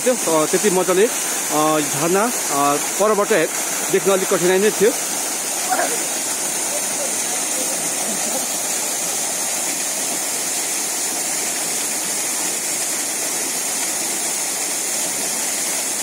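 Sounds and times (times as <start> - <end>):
small waterfall pouring: 0.0 - 16.0.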